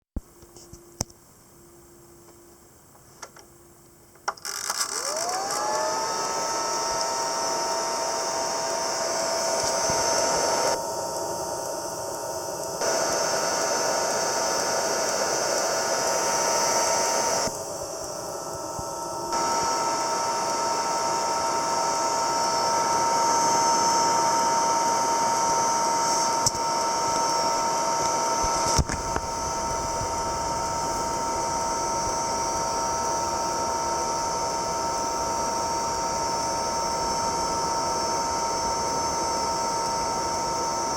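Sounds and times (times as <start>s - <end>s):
shoe dryer blower whirring: 4.5s - 40.9s.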